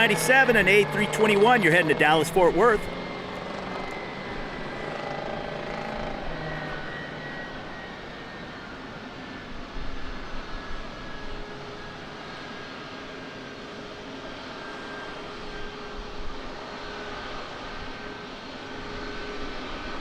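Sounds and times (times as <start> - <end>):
faint high whine: 0.0 - 20.0
jet engines rushing: 0.0 - 20.0.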